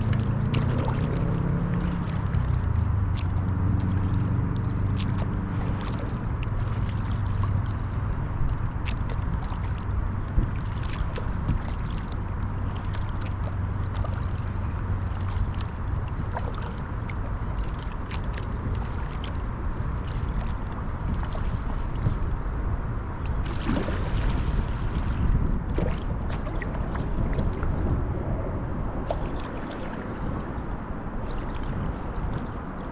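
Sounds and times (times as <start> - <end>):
paddle splashing and dripping water: 0.0 - 32.9
steady low rumble: 0.0 - 32.9.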